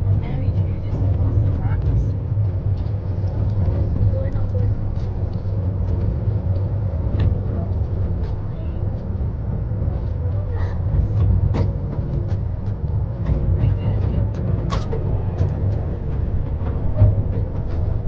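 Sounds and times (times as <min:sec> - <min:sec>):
miniature train rumbling on track: 0:00.0 - 0:18.0.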